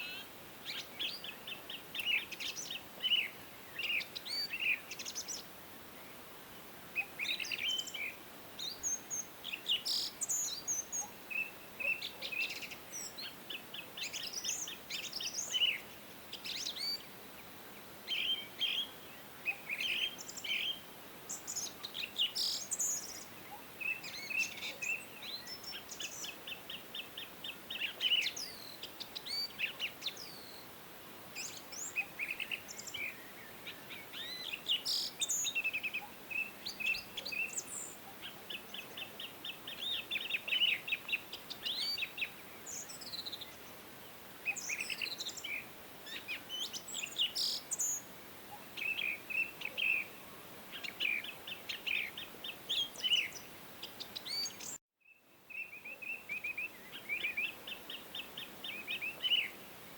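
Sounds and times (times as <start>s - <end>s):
faint steady hiss: 0.0s - 59.9s
songbirds singing and chirping: 0.0s - 59.9s.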